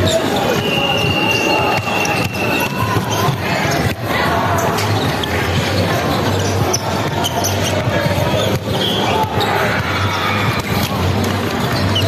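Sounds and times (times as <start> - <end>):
echoing hall noise: 0.0 - 12.0
basketball bouncing: 1.0 - 12.0.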